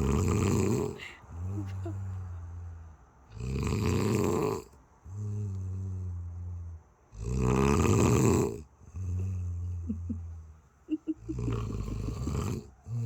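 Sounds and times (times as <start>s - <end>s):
rough snoring: 0.0s - 2.4s, 3.3s - 10.5s, 11.2s - 13.0s.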